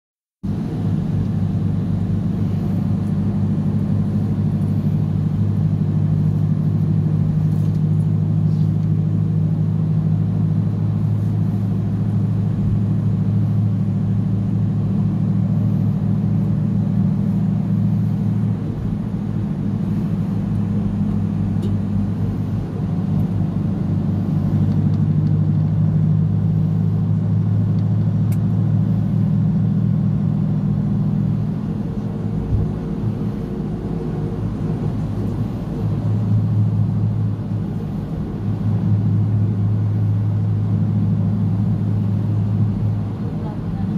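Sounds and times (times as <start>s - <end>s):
road and engine hum: 0.4s - 43.9s.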